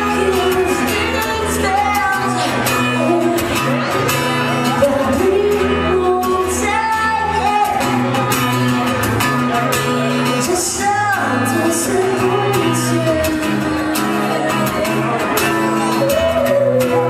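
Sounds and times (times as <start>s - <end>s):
woman singing: 0.0s - 8.7s, 9.7s - 17.0s
strummed acoustic guitar: 0.0s - 17.0s.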